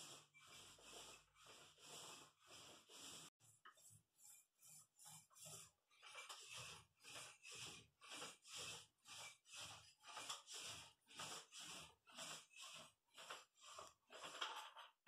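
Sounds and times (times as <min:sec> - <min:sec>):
paint roller swishing on wall: 0:00.0 - 0:15.0.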